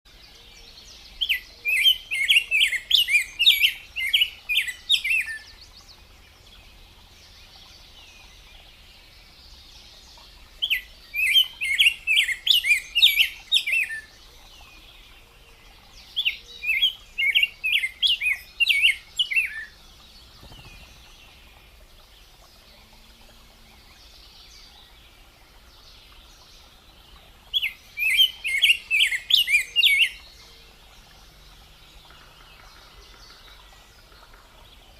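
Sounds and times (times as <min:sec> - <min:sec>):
bird chirping: 0:00.1 - 0:34.9.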